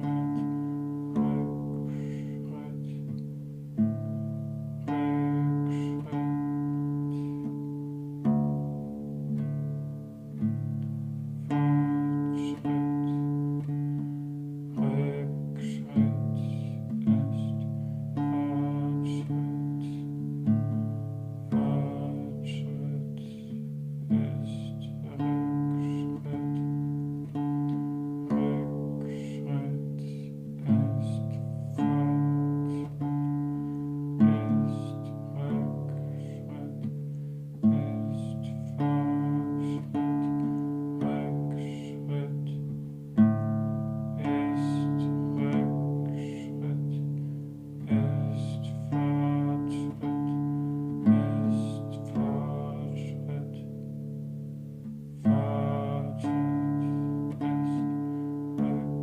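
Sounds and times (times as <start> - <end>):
classical guitar plucked chords: 0.0 - 59.0.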